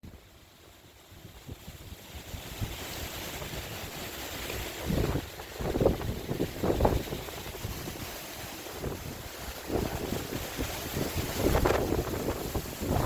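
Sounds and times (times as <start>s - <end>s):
ocean surf hiss: 0.1s - 13.0s
wind buffeting microphone: 1.1s - 13.0s.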